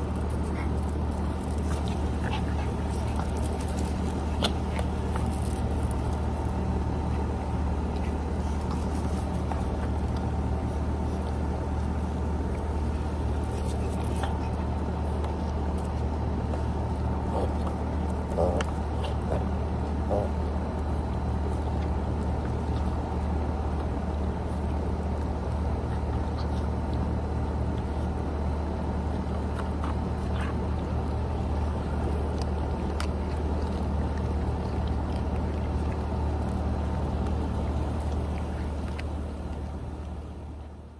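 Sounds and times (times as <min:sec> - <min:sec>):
low machine drone: 0:00.0 - 0:40.9.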